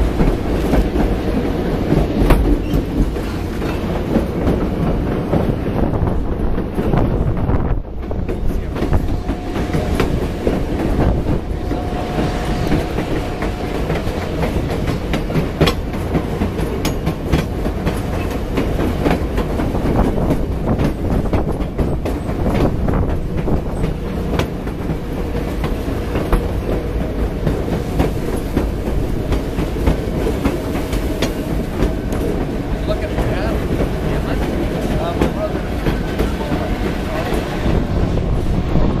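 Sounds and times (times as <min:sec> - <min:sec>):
train wheels clicking over rails: 0:00.0 - 0:39.0.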